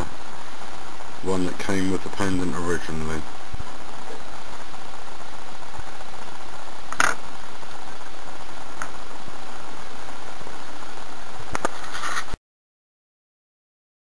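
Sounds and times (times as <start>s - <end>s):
recording hiss: 0.0s - 12.4s.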